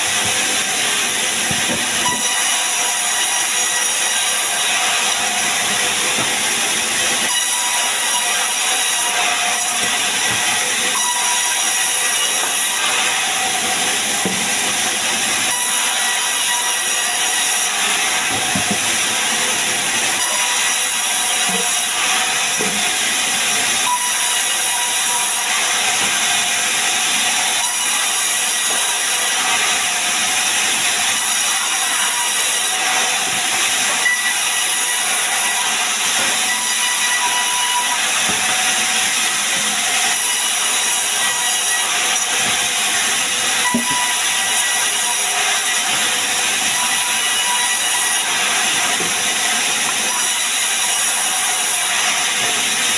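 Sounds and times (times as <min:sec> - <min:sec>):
band saw cutting logs: 0:00.0 - 0:52.9.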